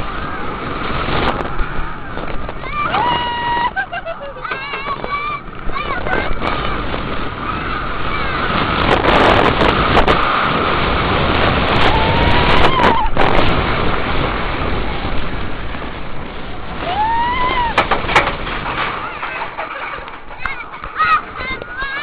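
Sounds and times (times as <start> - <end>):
roller coaster rumbling on track: 0.0 - 22.0
wind rushing over microphone: 0.0 - 22.0.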